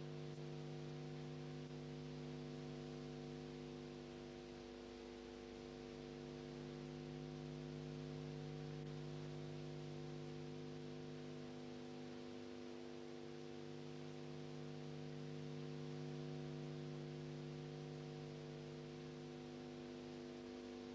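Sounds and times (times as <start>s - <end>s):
steady electrical hum: 0.0s - 20.9s.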